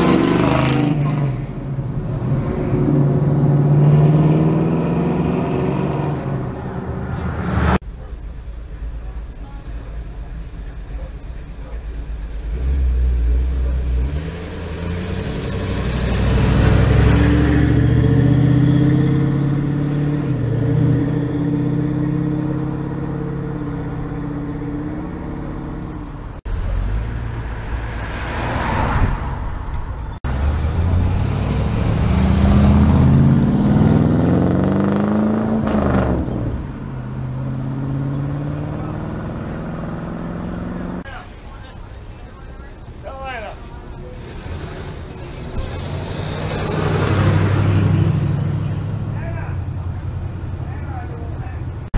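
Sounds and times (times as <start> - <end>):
cars driving past: 0.0 - 8.0, 11.0 - 51.9.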